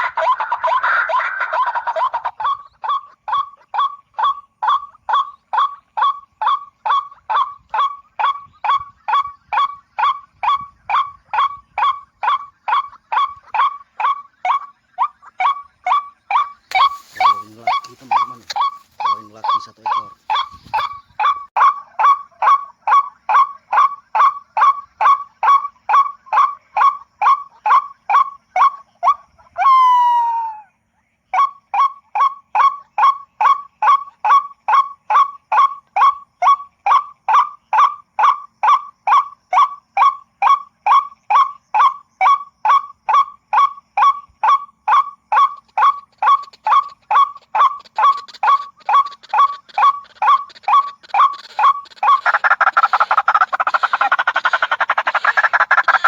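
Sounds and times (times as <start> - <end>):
waterhen calls: 0.0 - 30.7, 31.3 - 56.0.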